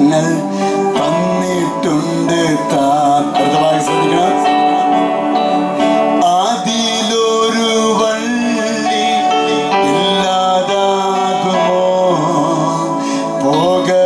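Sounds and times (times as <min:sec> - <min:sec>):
man singing a hymn: 0:00.0 - 0:05.1, 0:06.2 - 0:14.0
instrumental accompaniment: 0:00.0 - 0:14.0.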